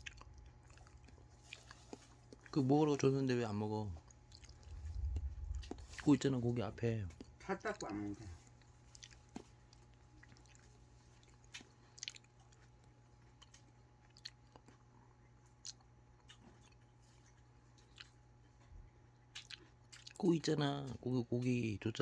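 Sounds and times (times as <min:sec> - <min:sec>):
cat chewing meat: 0:00.0 - 0:22.0.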